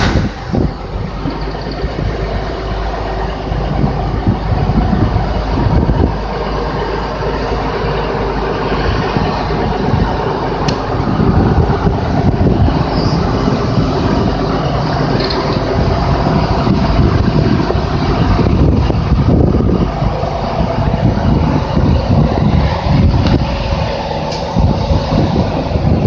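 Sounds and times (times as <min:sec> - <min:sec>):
diesel locomotive engine throb: 0:00.0 - 0:26.0
rolling rail noise: 0:00.0 - 0:26.0.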